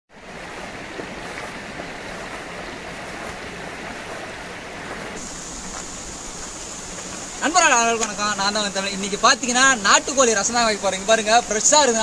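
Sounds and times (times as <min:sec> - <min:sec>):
river water flowing over stones: 0:00.1 - 0:12.0.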